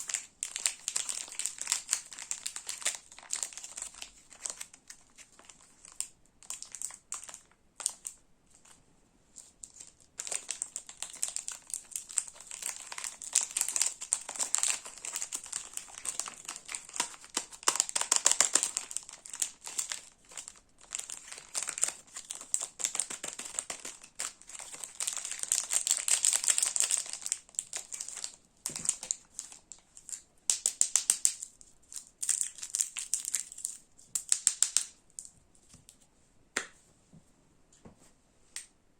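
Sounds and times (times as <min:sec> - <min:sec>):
crinkly wrappers being unwrapped: 0:00.0 - 0:36.0.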